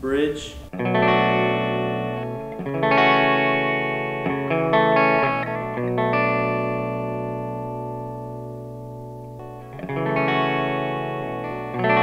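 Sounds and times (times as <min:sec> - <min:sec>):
clean electric guitar chords: 0:00.5 - 0:12.0.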